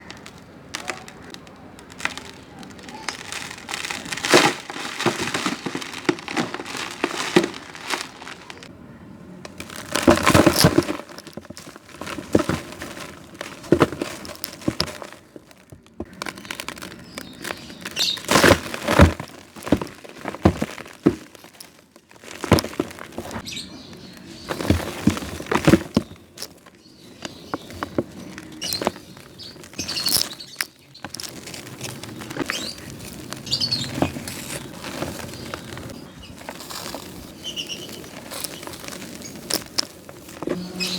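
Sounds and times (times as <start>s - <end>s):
dry blocks crunching: 0.0s - 8.7s, 9.3s - 40.9s
quiet crumbling: 0.0s - 8.7s, 9.4s - 40.9s.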